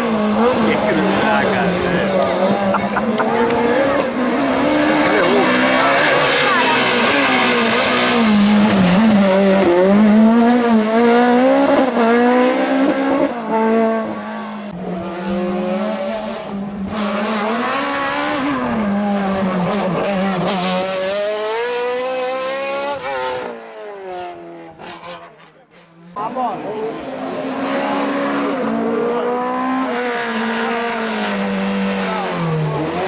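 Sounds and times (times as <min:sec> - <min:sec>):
racing car engine high revs: 0:00.0 - 0:26.0, 0:26.8 - 0:33.0.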